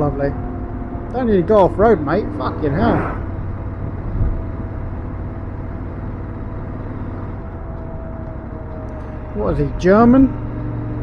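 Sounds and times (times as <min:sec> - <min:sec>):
motorcycle engine running: 0:00.0 - 0:11.0
wind and road rush: 0:00.0 - 0:11.0.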